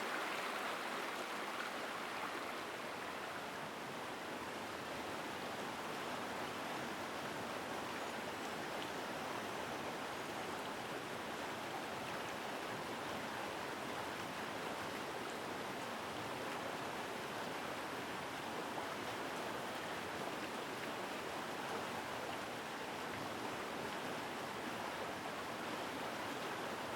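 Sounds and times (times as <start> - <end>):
river water rushing: 0.0 - 26.9.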